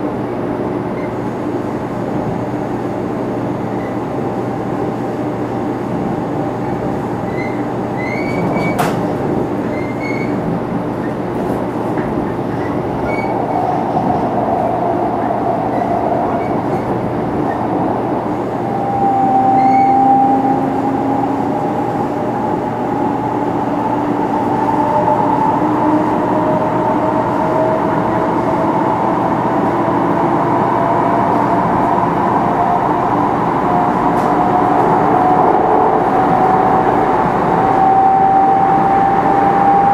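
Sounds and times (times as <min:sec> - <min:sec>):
train rolling noise: 0:00.0 - 0:39.9.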